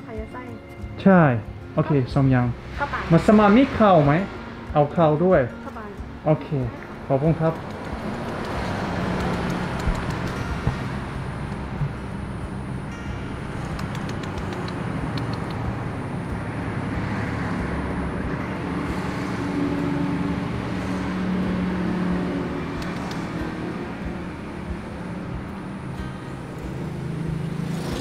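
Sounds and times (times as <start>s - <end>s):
road traffic noise: 0.0s - 28.0s
vehicle engine: 0.9s - 28.0s.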